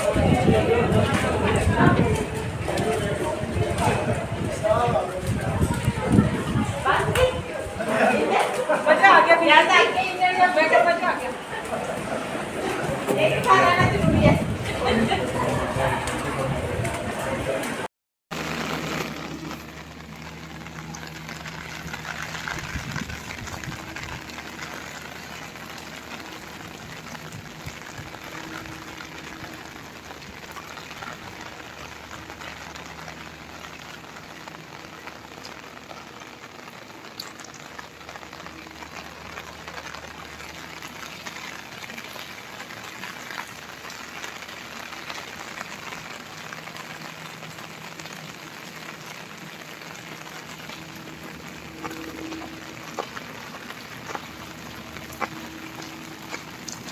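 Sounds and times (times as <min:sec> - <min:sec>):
rain falling: 0:00.0 - 0:56.9.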